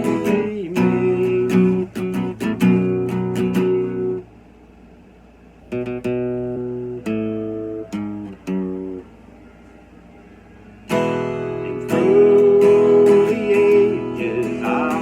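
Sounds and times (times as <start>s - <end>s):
acoustic guitar chords strummed: 0.0s - 4.8s, 5.6s - 15.0s.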